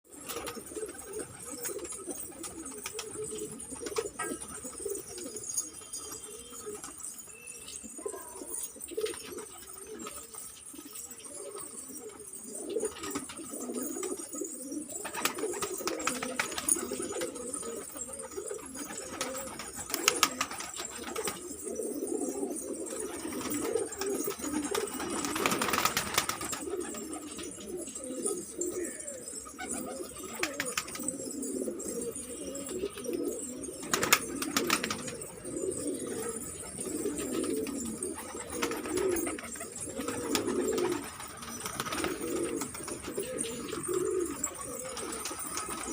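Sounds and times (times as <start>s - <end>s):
pigeons cooing: 0.1s - 45.9s.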